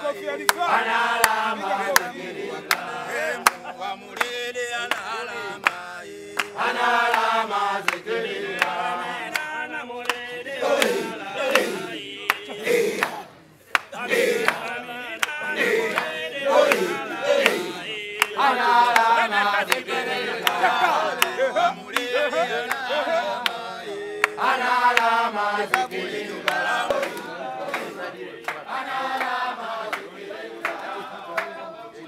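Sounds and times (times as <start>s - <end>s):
men chanting in unison: 0.0s - 32.0s.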